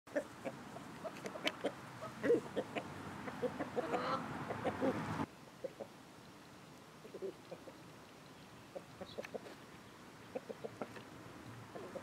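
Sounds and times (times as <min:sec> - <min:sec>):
chickens clucking: 0:00.1 - 0:06.0, 0:07.0 - 0:07.9, 0:08.7 - 0:12.0
steady background noise: 0:00.1 - 0:12.0.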